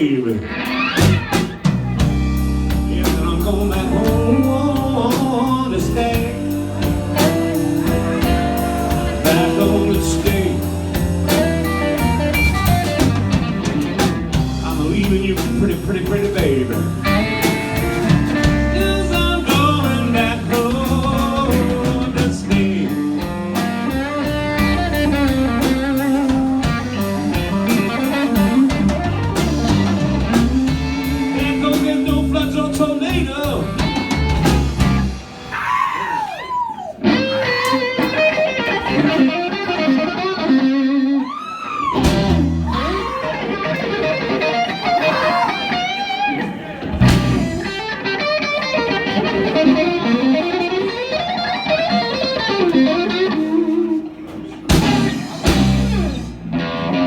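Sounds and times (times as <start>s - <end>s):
electric guitar lead lines: 0.0s - 35.6s, 37.0s - 57.0s
bass guitar: 0.0s - 57.0s
drum kit: 0.8s - 40.2s, 41.8s - 45.9s, 46.8s - 48.2s, 49.7s - 56.8s.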